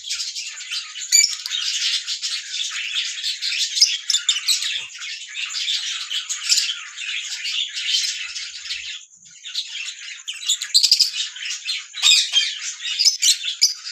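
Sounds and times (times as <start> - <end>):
parrots chirping and squawking: 0.0 - 13.9.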